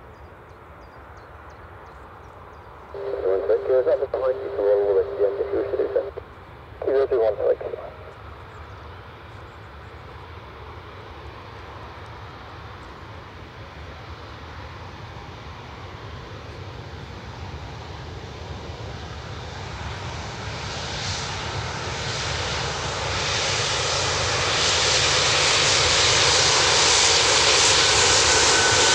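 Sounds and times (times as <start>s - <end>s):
jet engines running at low power: 0.0s - 28.9s.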